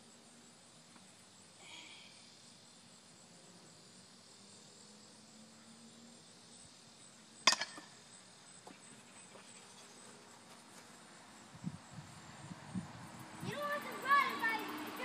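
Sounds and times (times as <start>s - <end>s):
faint insect buzz: 0.0s - 15.0s.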